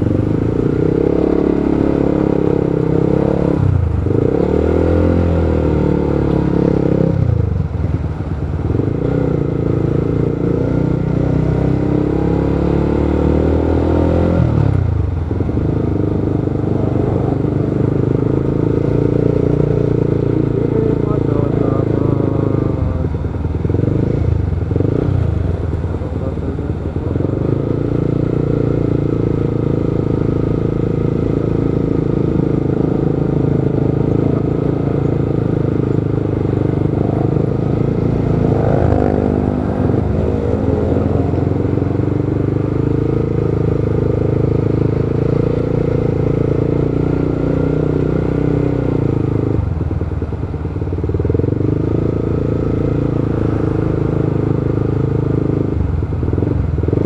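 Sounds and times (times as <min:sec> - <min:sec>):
city traffic: 0:00.0 - 0:57.0
motorcycle engine running: 0:00.0 - 0:57.0.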